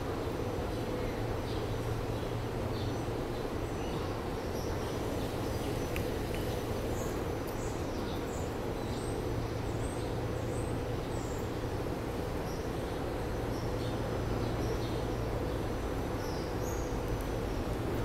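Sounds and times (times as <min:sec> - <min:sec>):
low background hum: 0:00.0 - 0:18.0
small birds chirping: 0:00.2 - 0:18.0.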